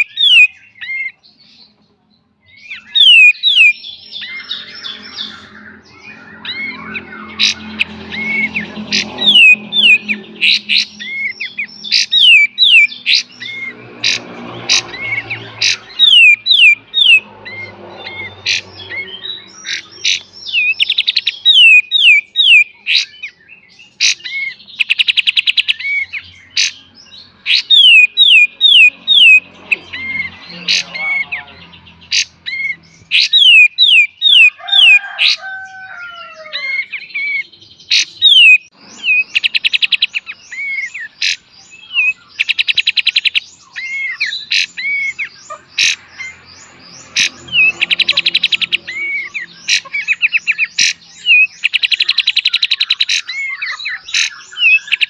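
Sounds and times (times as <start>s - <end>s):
bird singing whistled notes: 0.0s - 1.8s, 2.4s - 13.8s, 14.9s - 34.6s, 36.6s - 55.0s.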